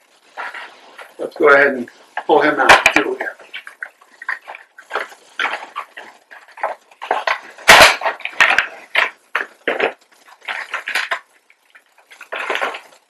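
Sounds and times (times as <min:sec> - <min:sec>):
cardboard and plastic packaging rustling: 0:00.0 - 0:13.0.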